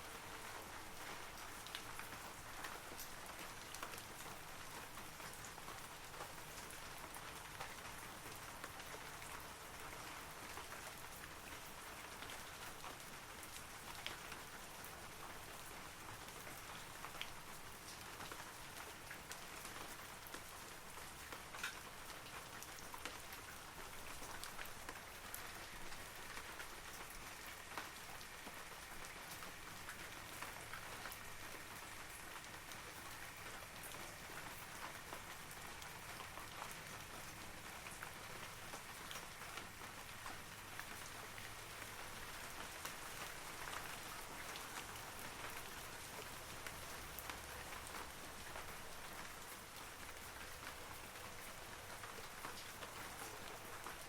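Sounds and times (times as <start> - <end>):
rain falling on trees: 0.0 - 54.0.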